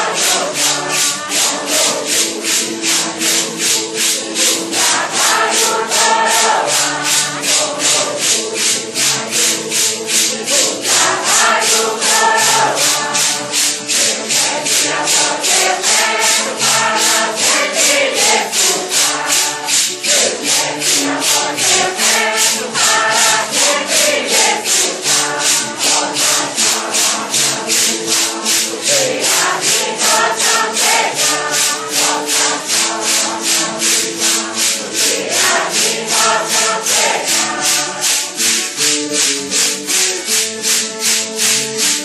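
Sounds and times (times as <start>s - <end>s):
group singing a hymn: 0.0s - 42.0s
maracas shaking: 0.0s - 42.0s.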